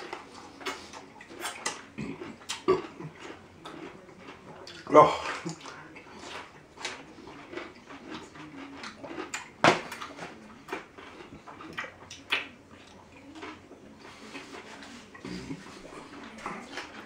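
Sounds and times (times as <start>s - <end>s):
people chewing pickles: 0.0s - 17.0s.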